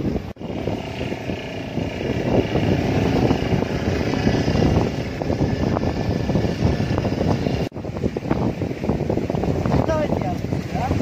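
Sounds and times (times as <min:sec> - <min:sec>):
motorboat engine running: 0:00.0 - 0:11.0
wind buffeting microphone: 0:00.0 - 0:11.0.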